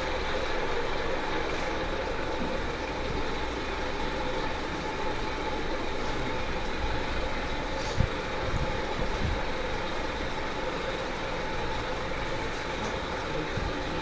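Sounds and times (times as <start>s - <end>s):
faint continuous hum: 0.0s - 14.0s.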